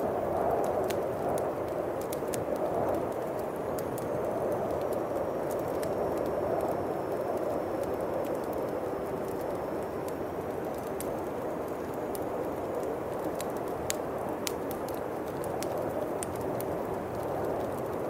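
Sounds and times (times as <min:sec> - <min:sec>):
bonfire crackling and popping: 0:00.0 - 0:18.0
howling wind: 0:00.0 - 0:18.0.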